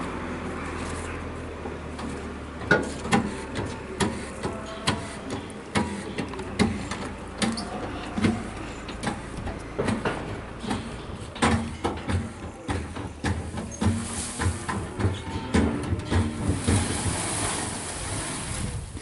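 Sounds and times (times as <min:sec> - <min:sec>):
hydraulic hand pump clunks: 0:02.0 - 0:18.7.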